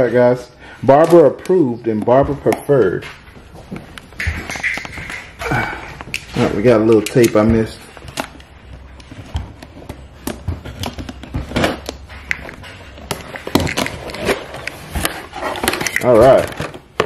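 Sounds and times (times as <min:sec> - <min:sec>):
box and packaging rustling: 0:00.0 - 0:17.0.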